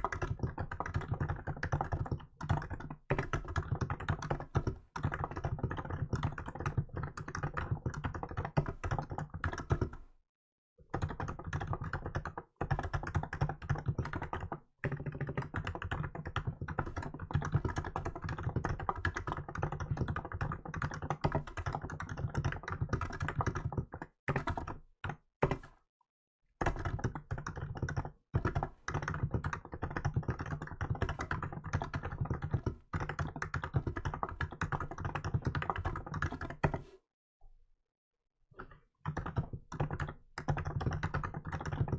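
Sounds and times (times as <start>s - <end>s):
fast typing on keyboard: 0.0s - 10.1s, 10.8s - 25.8s, 26.6s - 36.9s, 38.6s - 41.9s.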